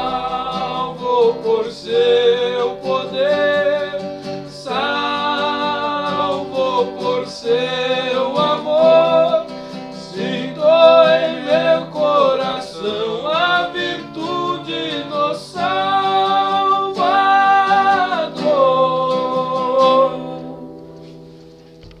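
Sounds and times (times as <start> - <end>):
men singing a hymn: 0.0 - 20.6
strummed acoustic guitar: 0.0 - 22.0.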